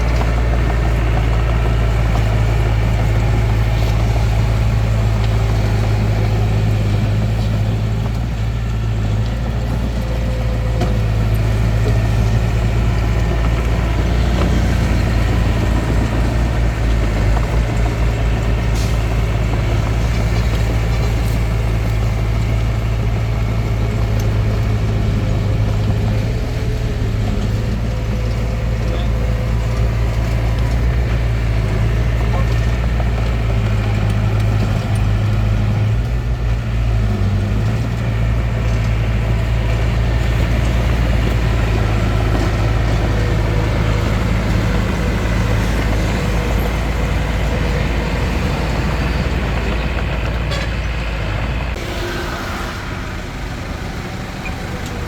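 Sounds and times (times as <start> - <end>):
bulldozer engine running: 0.0 - 55.0.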